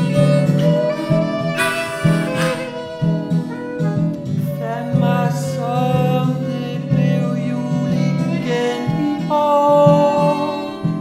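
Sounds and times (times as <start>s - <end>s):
bowed melody line: 0.0s - 11.0s
plucked acoustic guitar: 0.0s - 11.0s.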